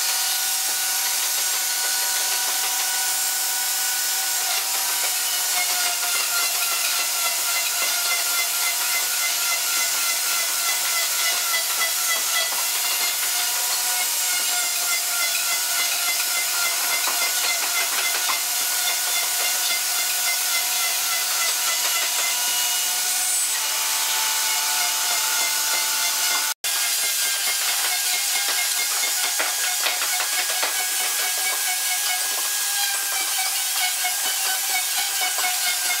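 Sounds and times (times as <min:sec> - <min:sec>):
router bit cutting wood: 0:00.0 - 0:36.0
router motor whining: 0:00.0 - 0:36.0.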